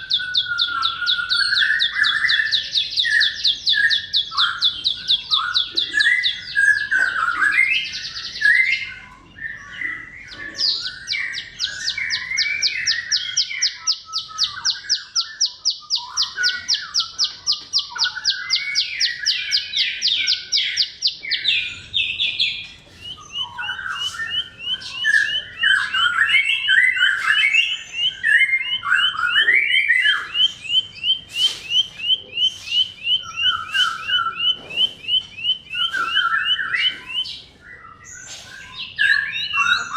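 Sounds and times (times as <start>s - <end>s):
bird chirps and twitters: 0.0s - 39.9s
bird trilling: 0.0s - 39.9s.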